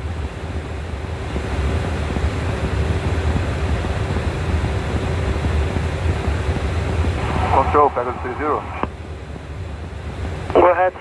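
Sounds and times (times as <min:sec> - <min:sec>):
airliner cabin engine rumble: 0:00.0 - 0:11.0
faint steady hum: 0:00.0 - 0:11.0.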